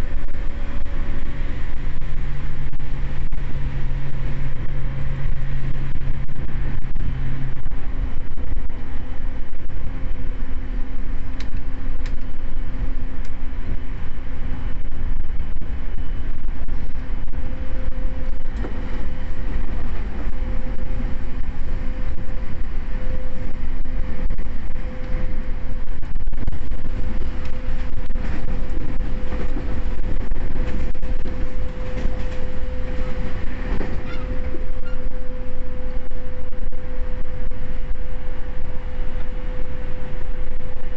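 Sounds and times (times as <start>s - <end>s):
low hum: 0.0s - 40.9s
train motor hum: 0.0s - 40.9s
train wheels rumbling on rails: 0.0s - 40.9s.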